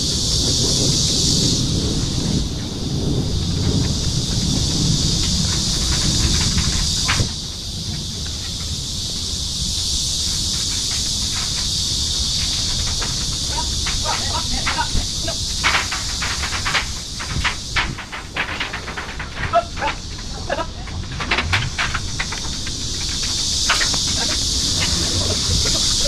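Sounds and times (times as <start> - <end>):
cicadas chorus: 0.0 - 26.0.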